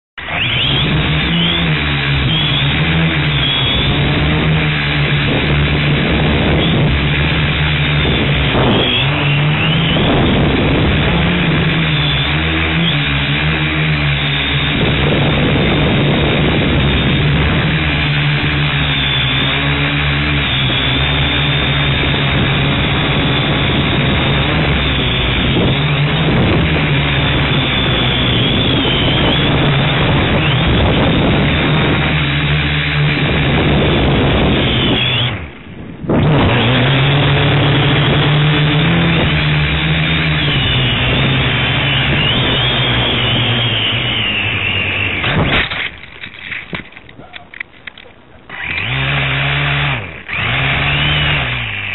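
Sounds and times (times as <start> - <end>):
quadcopter motors buzzing: 0.2 - 51.9.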